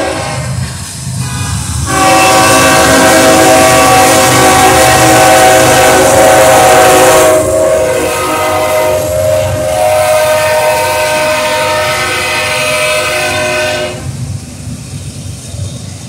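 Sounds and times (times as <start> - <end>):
locomotive air horn chord: 0.0 - 0.6, 1.2 - 14.1
freight train rumbling: 0.0 - 16.0.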